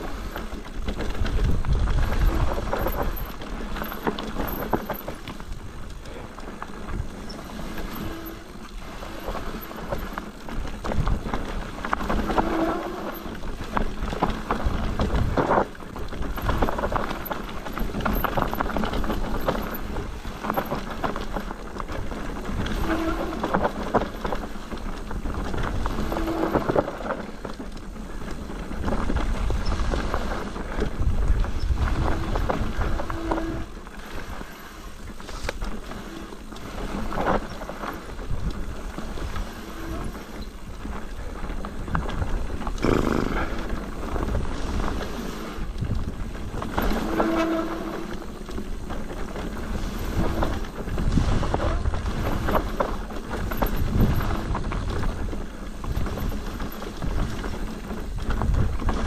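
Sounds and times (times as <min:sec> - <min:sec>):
bike rattling: 0:00.0 - 0:59.0
bike tyres crunching over stones: 0:00.0 - 0:59.0.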